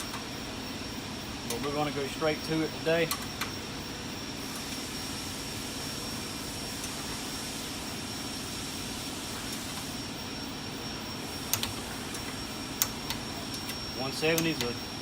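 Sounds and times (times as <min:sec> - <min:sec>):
faint high whine: 0:00.0 - 0:15.0
steady background hum: 0:00.0 - 0:15.0.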